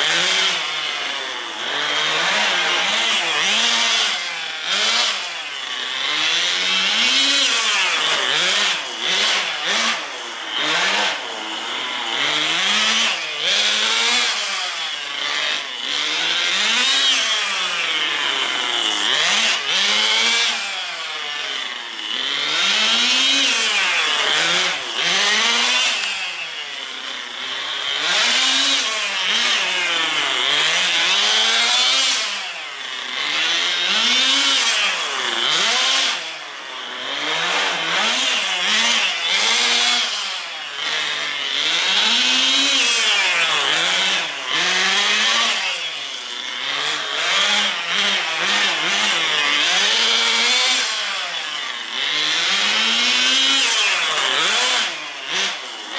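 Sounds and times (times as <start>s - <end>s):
model car engine buzzing: 0.0s - 55.9s.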